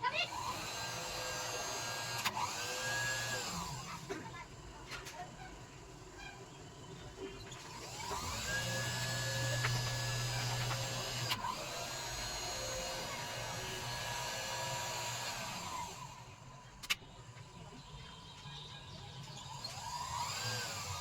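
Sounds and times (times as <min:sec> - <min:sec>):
small electric motor whining: 0:00.0 - 0:17.5, 0:19.3 - 0:21.0.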